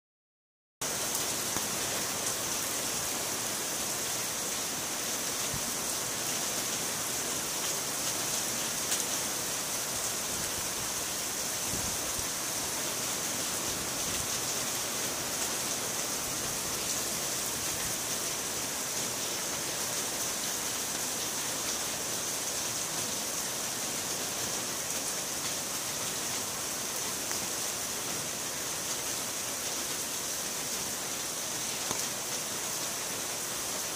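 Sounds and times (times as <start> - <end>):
heavy rain pouring: 0.8 - 33.9.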